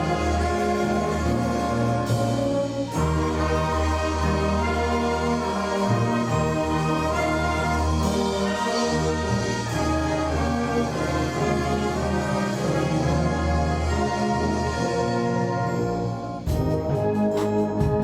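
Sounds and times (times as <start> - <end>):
concert band brass chords: 0.0 - 18.0.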